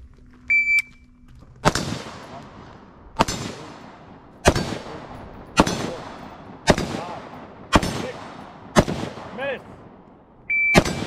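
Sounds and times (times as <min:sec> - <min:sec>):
gunshot echo: 0:01.6 - 0:11.0
rifle shots: 0:01.6 - 0:11.0.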